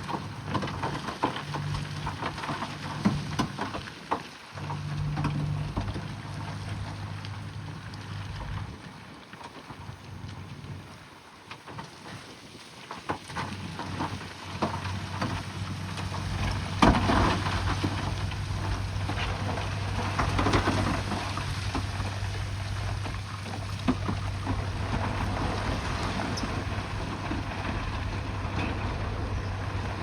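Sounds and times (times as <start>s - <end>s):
bulldozer diesel engine: 0.0s - 8.8s, 13.5s - 30.0s
rock crunching and clattering: 0.0s - 8.8s, 12.9s - 30.0s.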